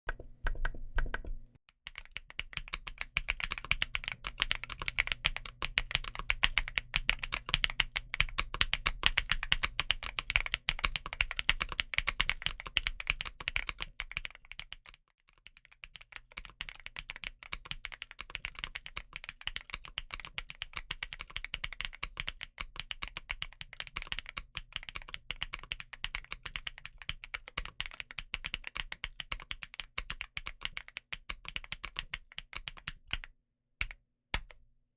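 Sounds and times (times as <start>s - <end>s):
mechanical keyboard typing: 0.1s - 14.9s, 15.6s - 33.3s.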